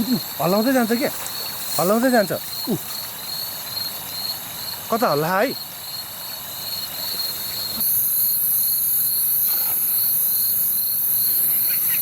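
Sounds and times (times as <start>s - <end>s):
crickets chirping: 0.0s - 12.0s
high-pitched insect buzz: 0.0s - 12.0s.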